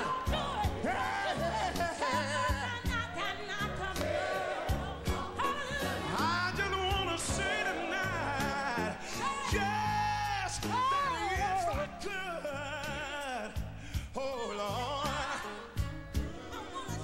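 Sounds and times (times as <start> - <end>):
gospel lead vocal with vibrato: 0.0 - 17.0.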